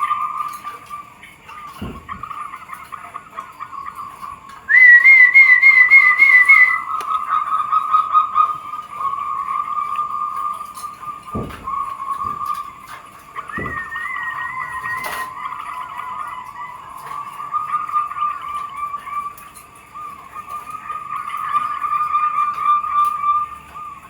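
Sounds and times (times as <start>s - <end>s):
doves cooing: 0.0s - 24.0s
warbling bird call: 0.0s - 24.0s.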